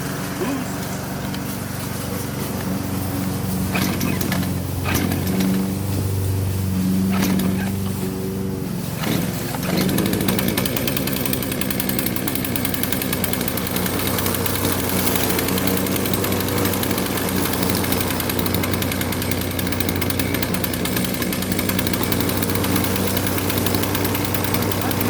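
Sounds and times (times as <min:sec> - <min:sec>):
chainsaw engine idling: 0:00.0 - 0:25.0.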